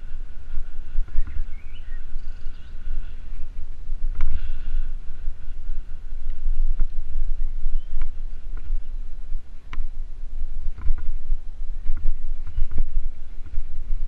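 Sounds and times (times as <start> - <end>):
bicycle tyres rumbling on path: 0.0 - 14.0
wind buffeting microphone: 0.0 - 14.0.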